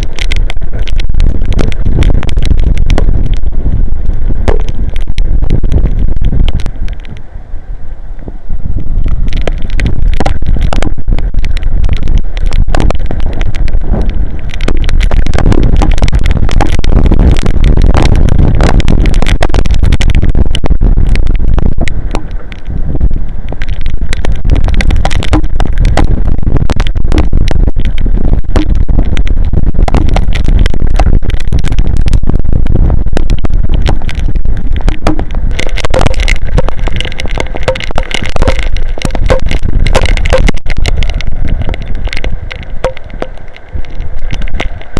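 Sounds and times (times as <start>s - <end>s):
wind buffeting microphone: 0.0s - 7.4s, 8.1s - 44.9s
rain crackling: 0.0s - 44.9s.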